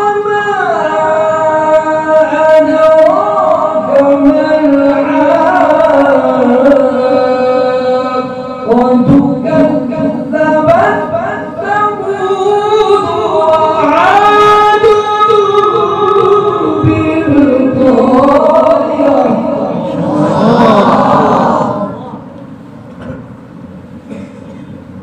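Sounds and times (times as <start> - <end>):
man reciting melodically: 0.0 - 22.3.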